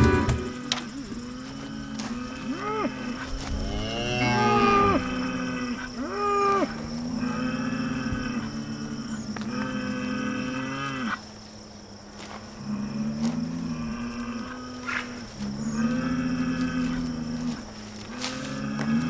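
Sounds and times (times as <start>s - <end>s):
bulls mooing: 0.0s - 11.2s, 12.6s - 19.0s.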